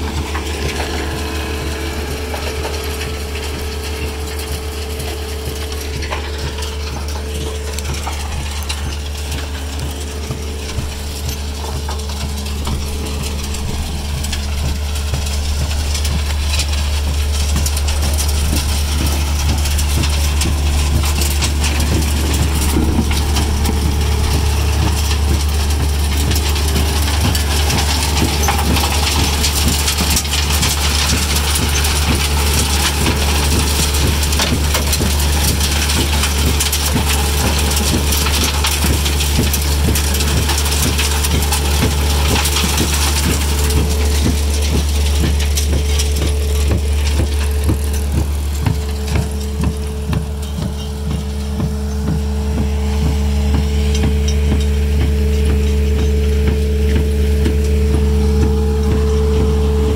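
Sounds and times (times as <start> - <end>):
low machine drone: 0.0 - 59.9
soil and wood chips clattering: 0.0 - 59.9.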